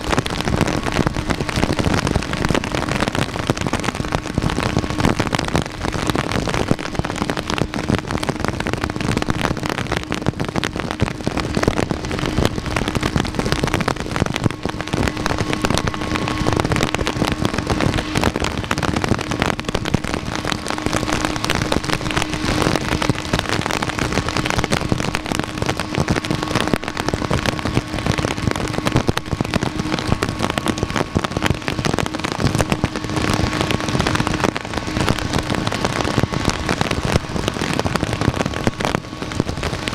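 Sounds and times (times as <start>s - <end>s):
heavy rain: 0.0s - 39.9s
steady low hum: 0.0s - 39.9s.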